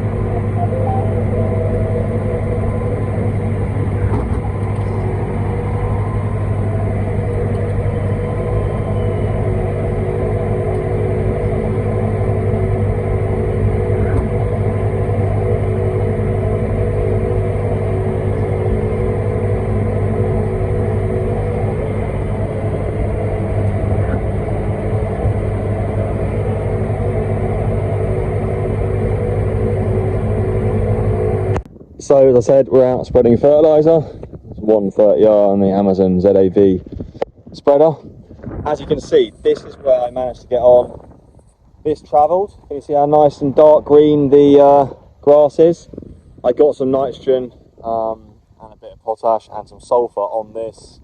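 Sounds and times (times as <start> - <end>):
tractor engine drone: 0.0 - 51.0.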